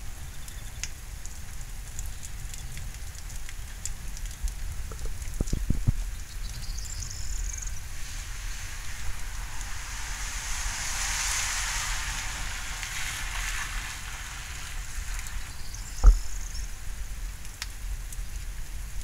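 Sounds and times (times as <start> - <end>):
steady rain falling: 0.0 - 19.0
low steady rumble: 1.2 - 19.0.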